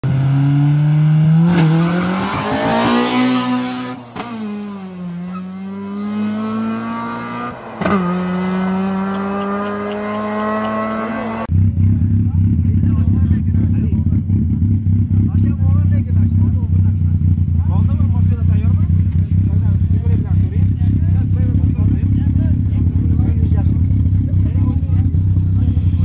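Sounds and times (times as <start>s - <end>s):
car engines at full throttle: 0.0s - 26.0s.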